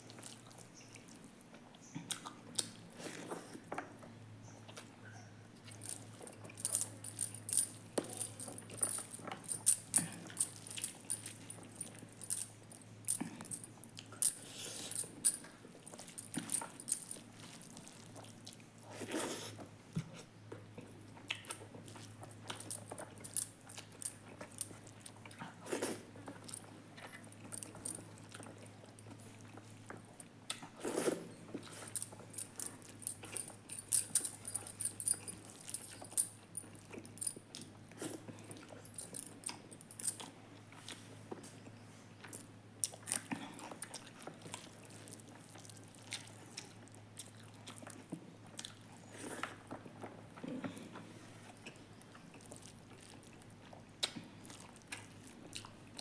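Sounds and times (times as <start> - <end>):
person chewing food: 5.6 - 56.0.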